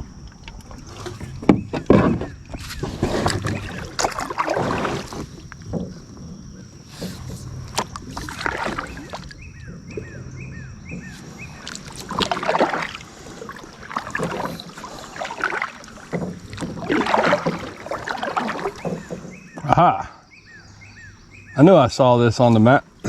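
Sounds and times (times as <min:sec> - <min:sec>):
bird chirping: 0:00.0 - 0:04.4, 0:05.1 - 0:15.2, 0:17.4 - 0:23.0
kayak paddle splashing: 0:00.0 - 0:23.0.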